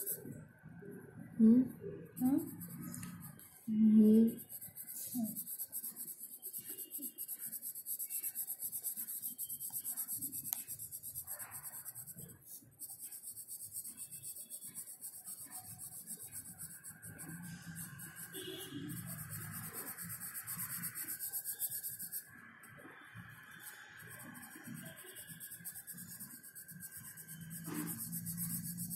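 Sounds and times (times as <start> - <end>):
pencil shading on paper: 0.0 - 0.4, 2.1 - 28.9.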